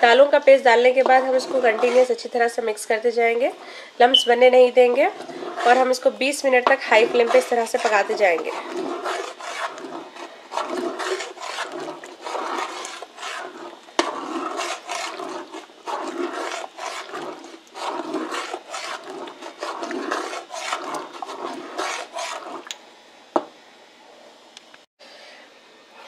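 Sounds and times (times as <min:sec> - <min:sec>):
spoon stirring thick paste in pot: 0:00.0 - 0:22.8.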